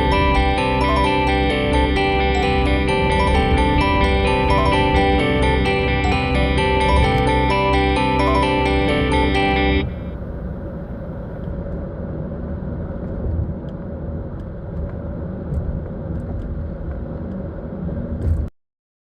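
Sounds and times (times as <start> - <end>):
low outdoor rumble: 0.0 - 18.5.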